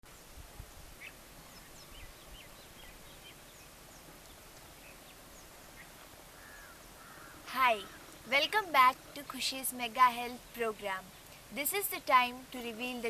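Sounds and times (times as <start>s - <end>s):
outdoor hiss: 0.0s - 13.0s
small birds chirping: 0.1s - 13.0s.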